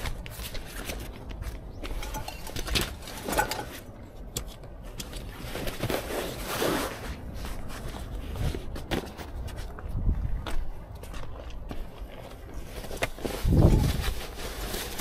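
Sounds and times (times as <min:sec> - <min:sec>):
rustling: 0:00.0 - 0:09.8, 0:12.1 - 0:15.0.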